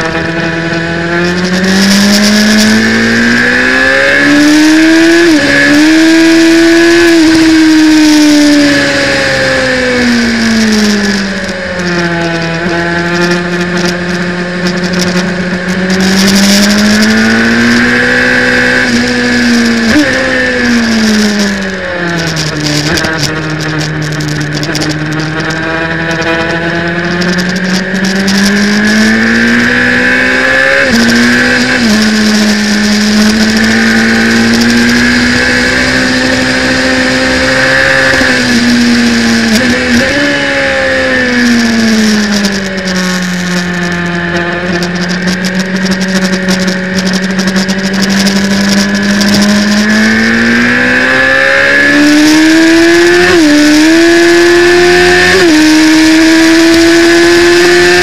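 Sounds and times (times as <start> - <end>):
racing motorcycle engine: 0.0 - 58.0
wind rush on microphone: 0.0 - 58.0.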